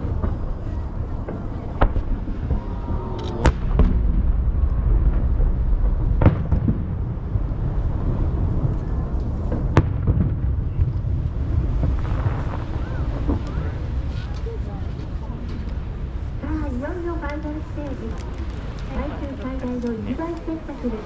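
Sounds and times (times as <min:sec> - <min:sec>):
fireworks booms echoing: 0:00.0 - 0:21.0
sharp firework bangs: 0:00.0 - 0:21.0.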